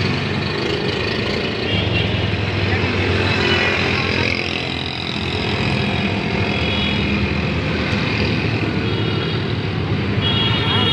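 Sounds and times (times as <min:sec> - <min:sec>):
passing motorcycles and cars: 0:00.0 - 0:10.9
traffic engines and tyres: 0:00.0 - 0:10.9.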